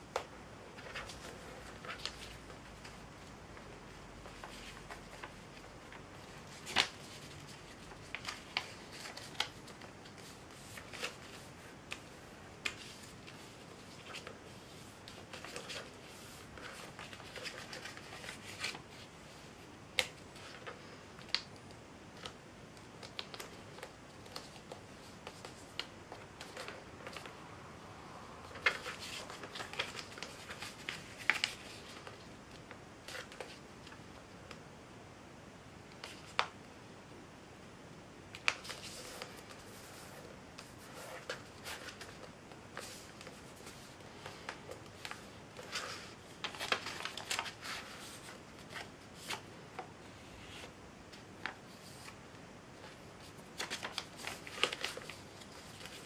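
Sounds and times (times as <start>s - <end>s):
paper being folded and creased: 0.7s - 21.5s, 23.0s - 27.3s, 28.5s - 34.0s, 38.3s - 52.2s, 52.8s - 56.0s.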